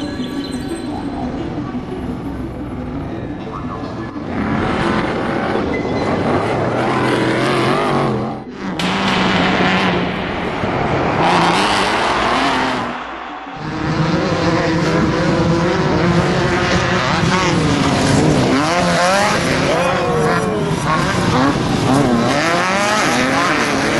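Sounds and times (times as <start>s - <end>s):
race vehicle engines revving: 1.3s - 10.2s, 11.1s - 23.9s.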